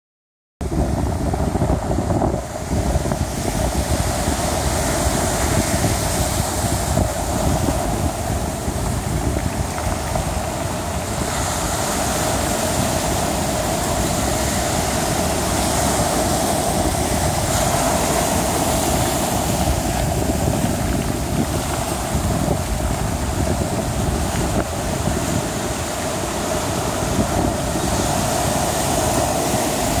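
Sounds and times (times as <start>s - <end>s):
surf breaking on pebble beach: 0.6s - 30.0s
wind buffeting microphone: 0.6s - 30.0s.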